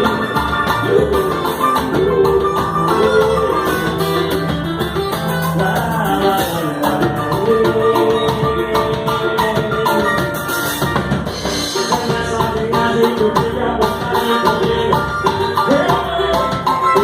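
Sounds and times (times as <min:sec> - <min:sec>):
drums and hand percussion: 0:00.0 - 0:17.0
samba band playing: 0:00.0 - 0:17.0.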